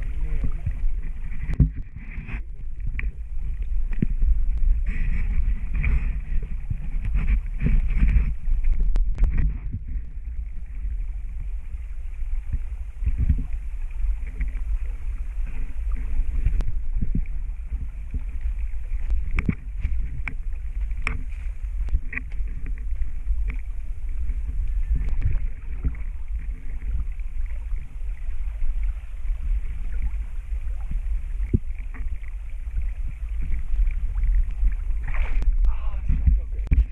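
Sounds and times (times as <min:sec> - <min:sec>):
low rumble: 0:00.0 - 0:36.9
river water sloshing around wader: 0:00.0 - 0:36.9.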